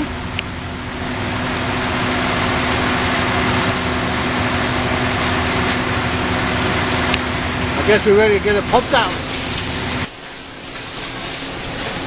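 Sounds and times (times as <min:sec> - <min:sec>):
vacuum truck humming: 0:00.0 - 0:12.0.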